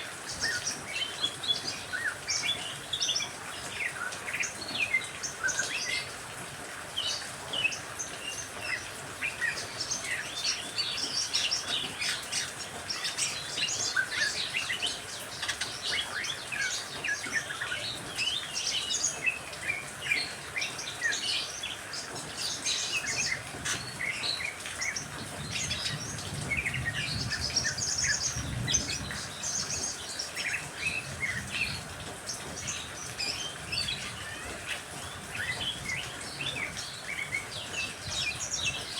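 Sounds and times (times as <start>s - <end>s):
rain hiss: 0.0s - 38.9s
small birds chirping chorus: 0.0s - 38.9s.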